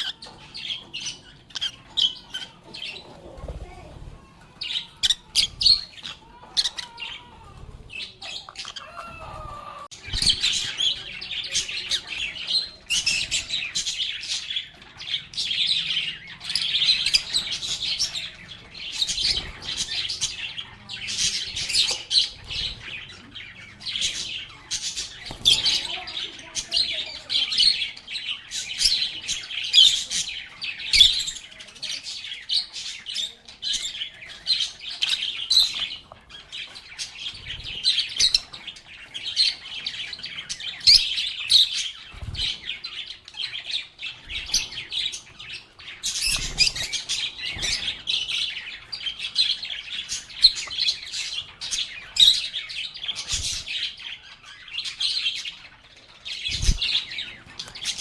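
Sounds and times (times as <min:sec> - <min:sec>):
lovebirds chirping and chattering: 0:00.0 - 0:58.0.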